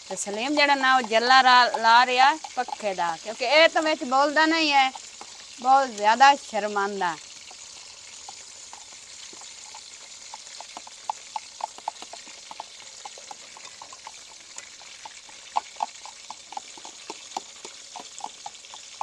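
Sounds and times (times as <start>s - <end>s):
food frying in hot oil: 0.0s - 19.0s
oil pops and ticks: 0.0s - 19.0s.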